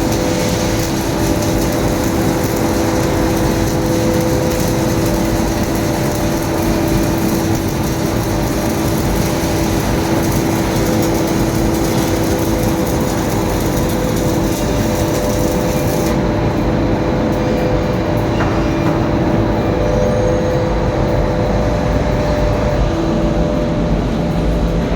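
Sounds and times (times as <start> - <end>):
two-tone machinery hum: 0.0 - 24.9.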